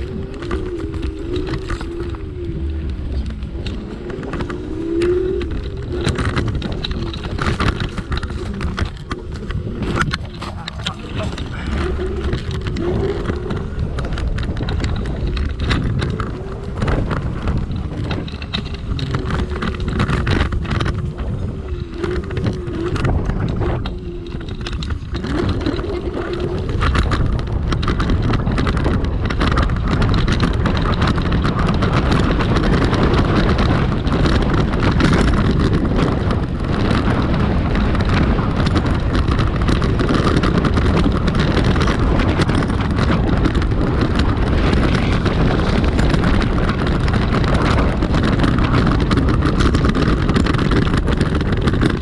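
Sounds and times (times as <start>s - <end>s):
tyre rumble: 0.0s - 52.0s
wind buffeting microphone: 0.0s - 52.0s.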